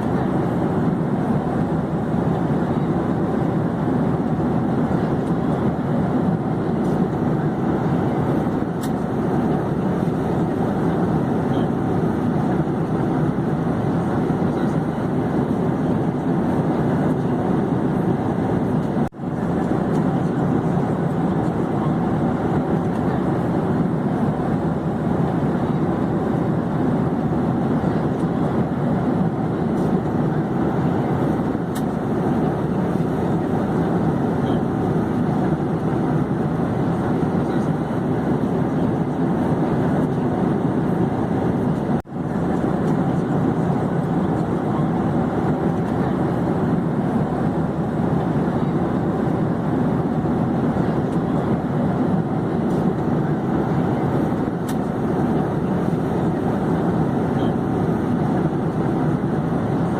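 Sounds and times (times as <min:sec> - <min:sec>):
airplane drone in flight: 0:00.0 - 0:59.9.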